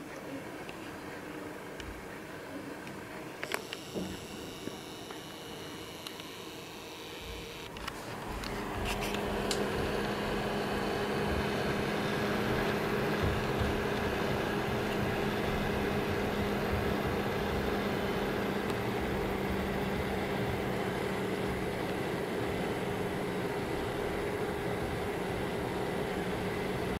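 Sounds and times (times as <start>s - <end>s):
computer fan whirring: 0.0s - 27.0s.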